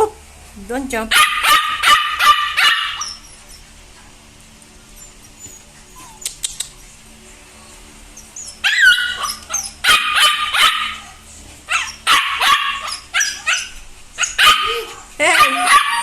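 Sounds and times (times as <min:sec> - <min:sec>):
puppies yipping and whining: 0:01.2 - 0:04.2, 0:04.8 - 0:07.1, 0:08.1 - 0:16.0.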